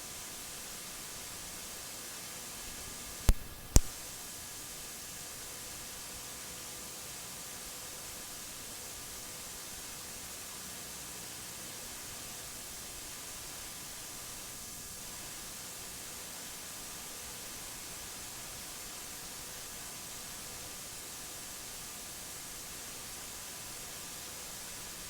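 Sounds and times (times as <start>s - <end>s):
static hiss: 0.0s - 25.0s.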